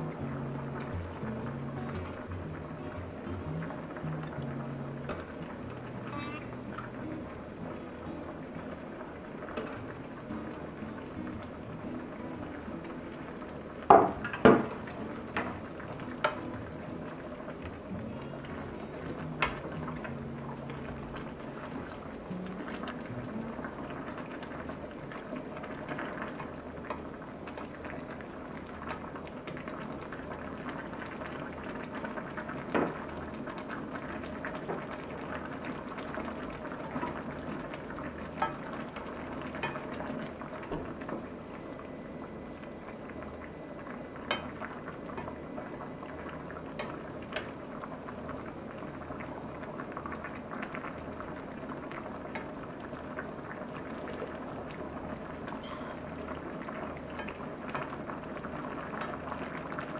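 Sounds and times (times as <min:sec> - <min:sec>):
sauce bubbling in a pan: 0:00.0 - 0:59.9.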